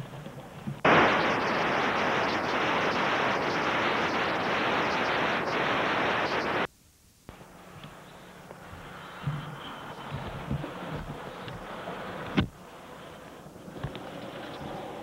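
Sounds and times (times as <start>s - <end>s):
tape static hiss: 0.0s - 15.0s.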